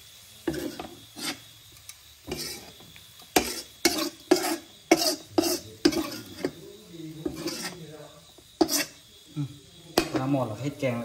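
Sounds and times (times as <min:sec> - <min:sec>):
spatula scraping a wok: 0:00.2 - 0:09.3, 0:09.9 - 0:10.7.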